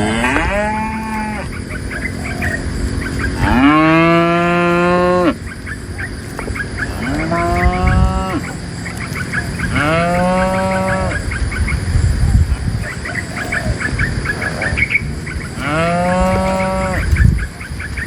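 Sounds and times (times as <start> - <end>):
cattle mooing: 0.0 - 5.4, 6.8 - 11.4, 12.8 - 17.3.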